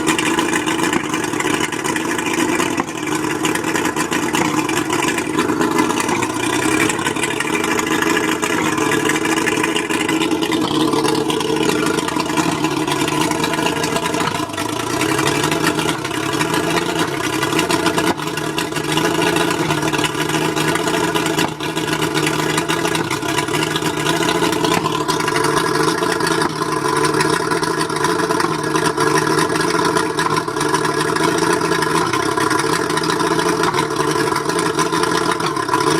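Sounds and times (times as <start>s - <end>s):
outboard motor running rough: 0.0s - 35.9s.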